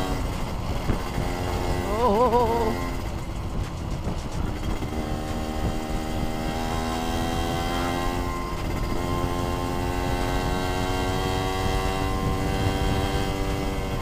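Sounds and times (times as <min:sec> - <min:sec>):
motorcycle engine running: 0:00.0 - 0:14.0
wind rush on microphone: 0:00.0 - 0:14.0.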